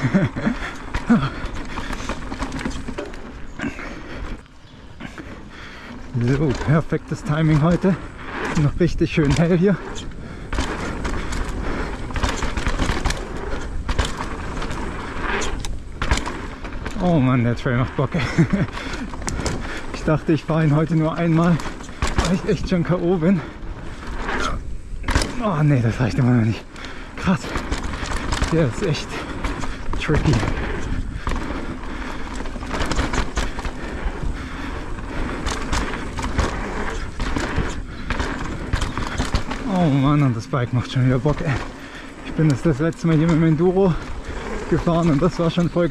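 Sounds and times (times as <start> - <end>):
bike clattering and knocking: 0.0 - 45.9
bike tyres rolling over dirt and rocks: 0.0 - 45.9
wind rumbling on microphone: 0.0 - 45.9.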